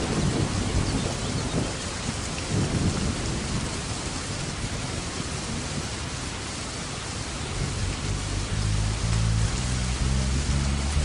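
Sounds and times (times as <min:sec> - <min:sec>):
low rolling thunder: 0:00.0 - 0:06.5, 0:07.4 - 0:11.0
steady rain hiss: 0:00.0 - 0:11.0.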